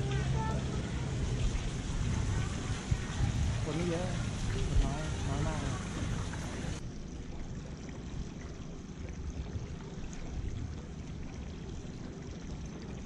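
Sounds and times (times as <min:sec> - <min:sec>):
low steady rumble: 0:00.0 - 0:13.0
water lapping against boat hull: 0:00.0 - 0:13.0.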